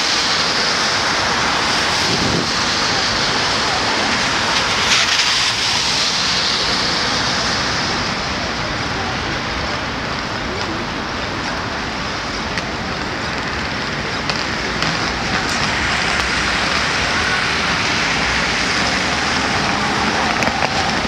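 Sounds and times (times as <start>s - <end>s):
footsteps on wet pavement: 0.0s - 21.0s
rain: 0.0s - 21.0s
traffic on wet road: 0.0s - 21.0s.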